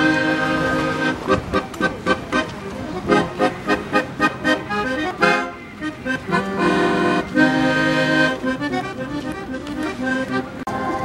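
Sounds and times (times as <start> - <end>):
accordion chords: 0.0 - 11.0.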